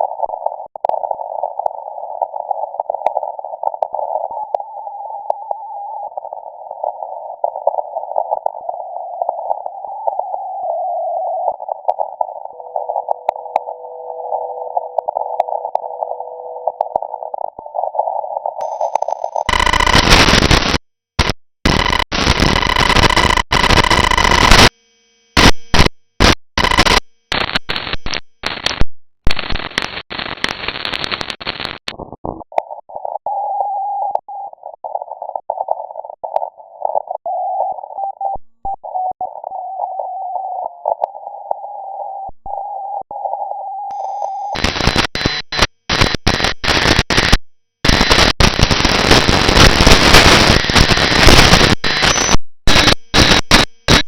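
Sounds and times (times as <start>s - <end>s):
steady tone over noise: 0.0s - 28.6s, 29.4s - 54.0s
radio static and hiss: 0.0s - 54.0s.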